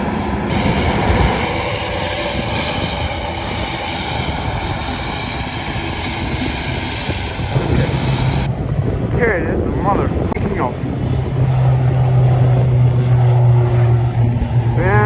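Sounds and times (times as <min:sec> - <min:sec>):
airliner engines running: 0:00.0 - 0:15.0
wind buffeting microphone: 0:00.2 - 0:15.0.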